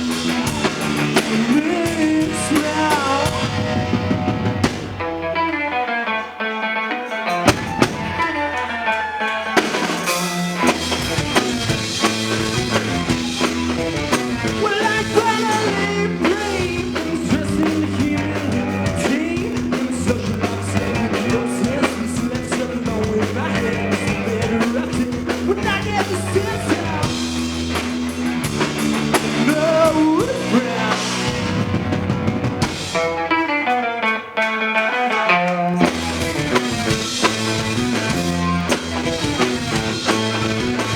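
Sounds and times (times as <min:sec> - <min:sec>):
electric guitar: 0:00.0 - 0:40.9
rock band playing live: 0:00.0 - 0:40.9.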